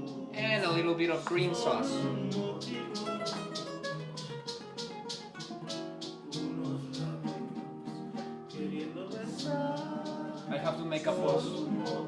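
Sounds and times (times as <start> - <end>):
strummed guitar: 0.0 - 12.0.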